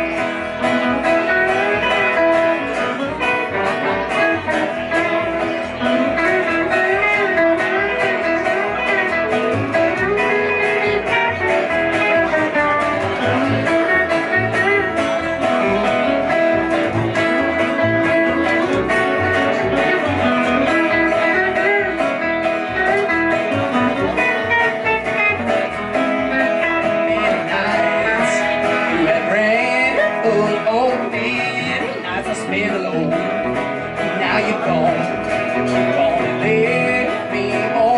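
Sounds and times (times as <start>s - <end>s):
acoustic guitar: 0.0s - 37.9s
electric guitar bending notes: 0.0s - 37.9s
plucked upright bass: 0.0s - 37.9s.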